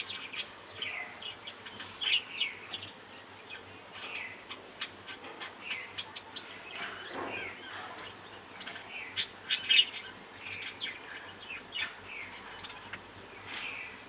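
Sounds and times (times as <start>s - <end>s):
bird chick chirping: 0.0s - 14.0s.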